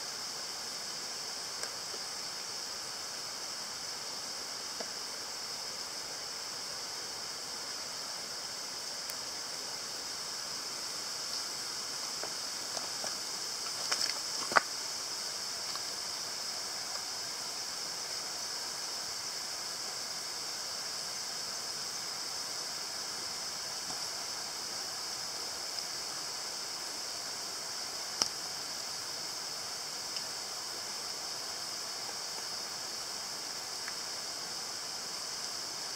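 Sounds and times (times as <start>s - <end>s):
outdoor night hiss: 0.0s - 35.9s.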